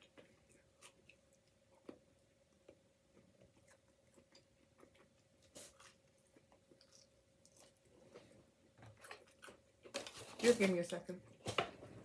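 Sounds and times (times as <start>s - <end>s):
person chewing food: 0.0s - 10.1s.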